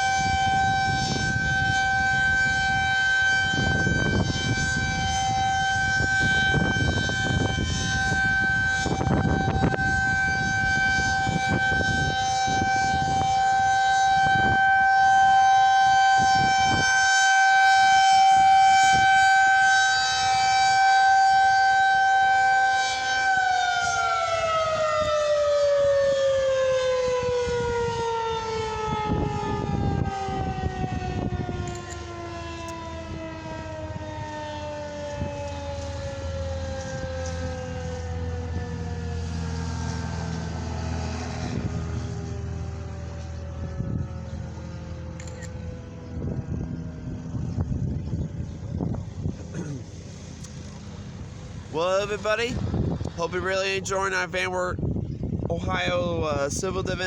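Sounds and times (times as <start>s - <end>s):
tornado siren alert tone: 0.0s - 57.0s.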